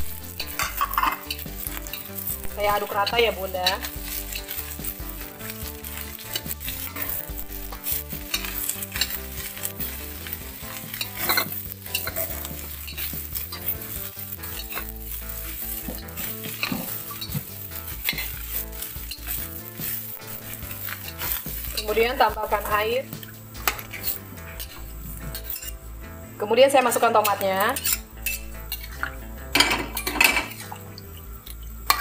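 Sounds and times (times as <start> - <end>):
food sizzling in oil: 0.0 - 32.0
metal spatula scraping wok: 0.0 - 32.0.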